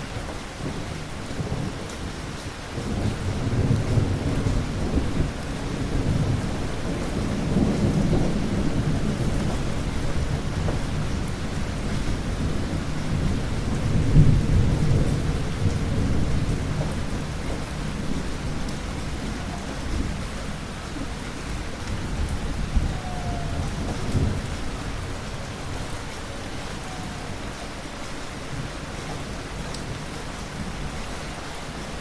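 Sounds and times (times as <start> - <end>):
rolling thunder: 0.0 - 31.0
steady rain: 0.0 - 32.0.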